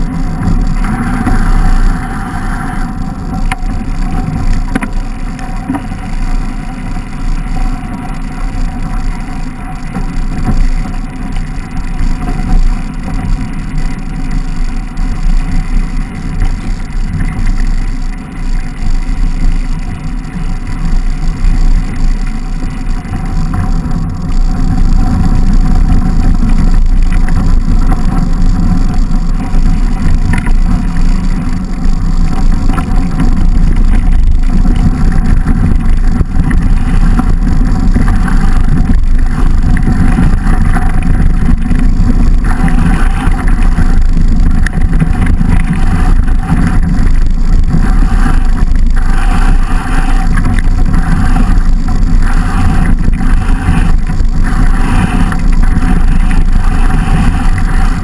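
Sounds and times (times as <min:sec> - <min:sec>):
wind buffeting rumble: 0:00.0 - 0:58.0.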